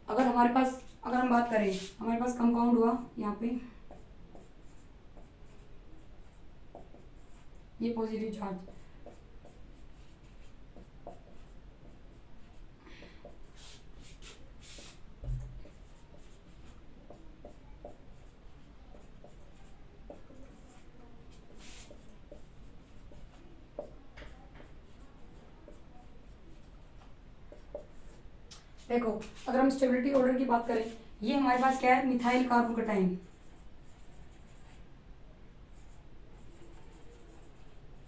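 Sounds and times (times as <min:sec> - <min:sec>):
marker scratching on whiteboard: 0:00.1 - 0:34.9, 0:35.7 - 0:38.0.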